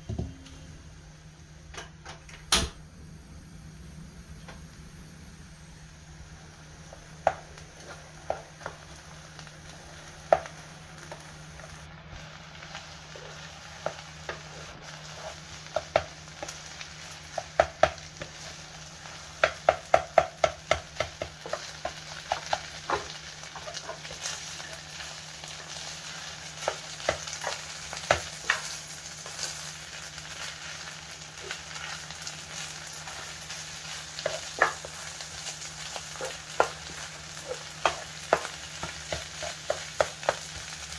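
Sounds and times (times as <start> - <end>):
fried rice sizzling in a pan: 5.0 - 40.9.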